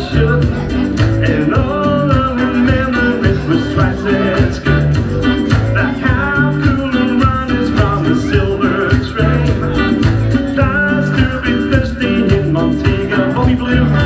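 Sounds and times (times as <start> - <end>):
upbeat pop music: 0.0 - 14.0.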